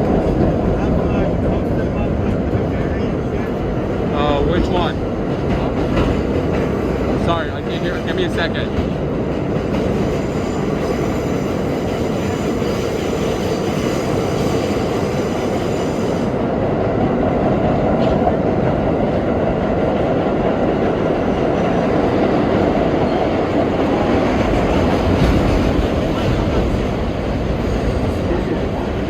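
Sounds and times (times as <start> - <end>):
subway wheels rumbling on rail: 0.0 - 29.0.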